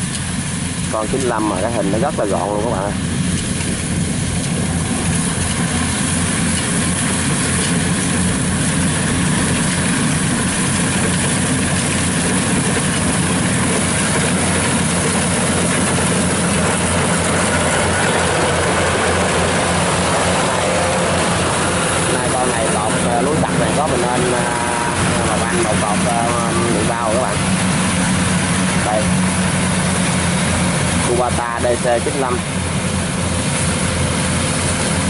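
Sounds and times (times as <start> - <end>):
combine harvester droning: 0.0 - 35.0.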